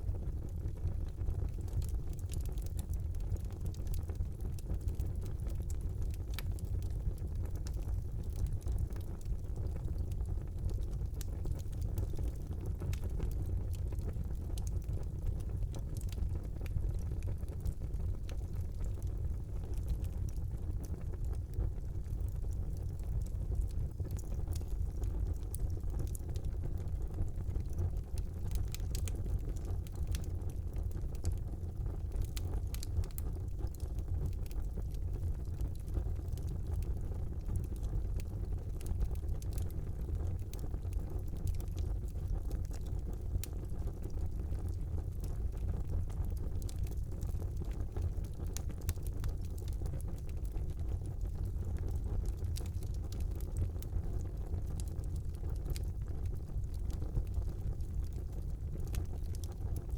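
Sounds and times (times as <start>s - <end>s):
wood fire crackling and popping: 0.1s - 59.9s.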